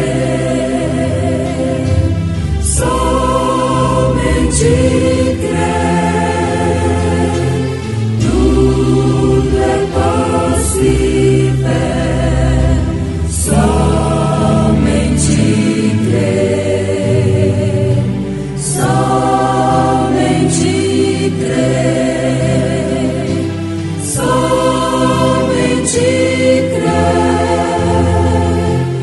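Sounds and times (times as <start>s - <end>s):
choir singing a hymn: 0.0s - 29.0s.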